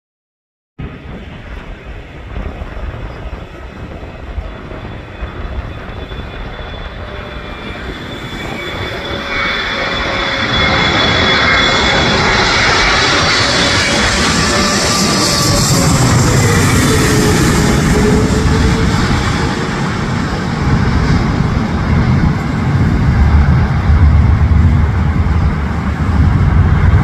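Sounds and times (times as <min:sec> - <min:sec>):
jet airliner rumble with whine: 0:00.8 - 0:27.0.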